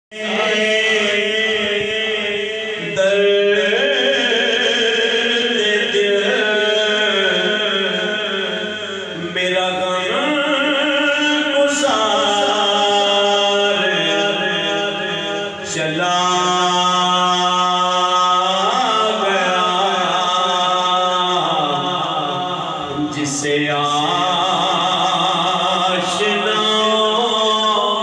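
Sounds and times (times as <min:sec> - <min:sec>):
man singing unaccompanied: 0:00.1 - 0:28.0.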